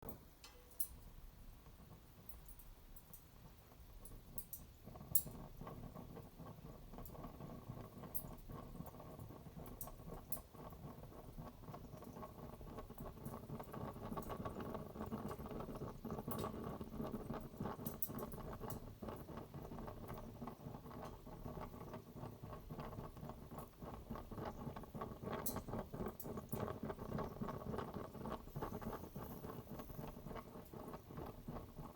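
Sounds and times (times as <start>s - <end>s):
fireplace flame crackling: 0.3s - 31.9s.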